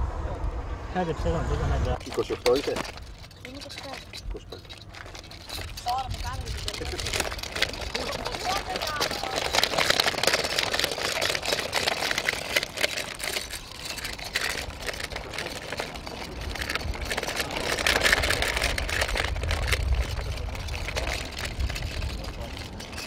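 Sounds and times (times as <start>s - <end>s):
wind rumbling on microphone: 0.0s - 23.0s
wheels and paws crunching on gravel: 1.8s - 23.0s.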